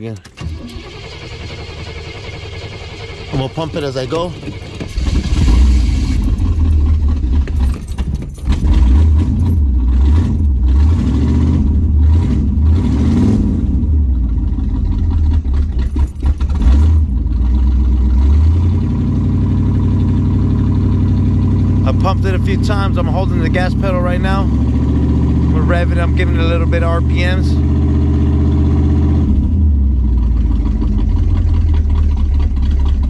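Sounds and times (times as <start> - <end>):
car engine cold starting rough: 0.0 - 33.0.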